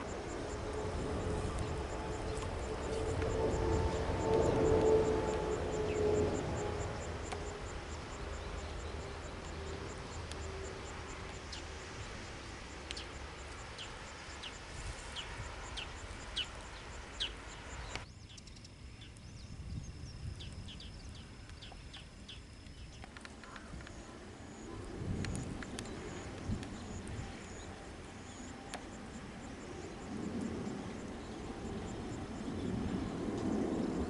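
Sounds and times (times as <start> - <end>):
background hiss: 0.0 - 34.0
high insect trill: 0.0 - 34.0.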